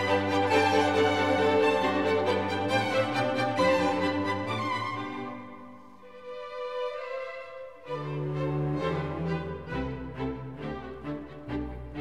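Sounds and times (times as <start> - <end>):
bowed strings melody: 0.0 - 12.0.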